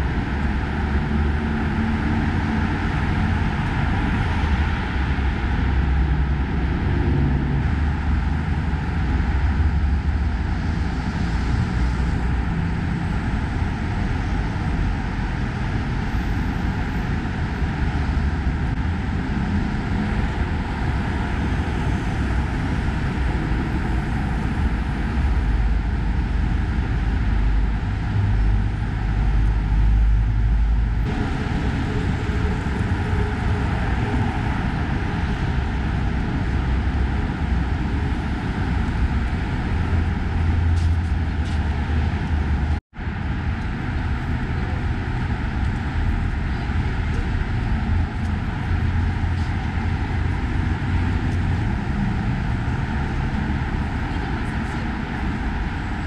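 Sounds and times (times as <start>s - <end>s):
heavy road traffic: 0.0s - 56.0s.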